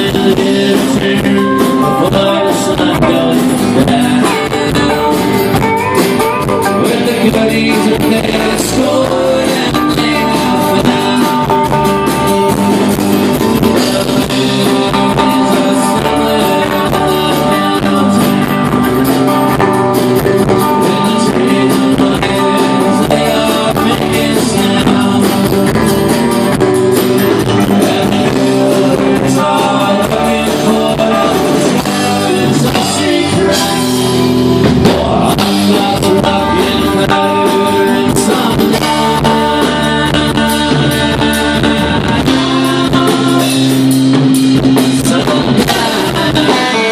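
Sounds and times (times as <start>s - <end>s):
live rock band guitar instrumental: 0.0s - 46.9s.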